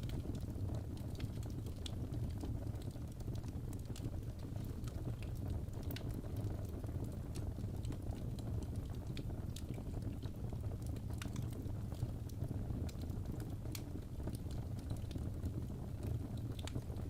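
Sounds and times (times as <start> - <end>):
fire crackling and popping: 0.0 - 17.0
low rumble of burning wood: 0.0 - 17.0.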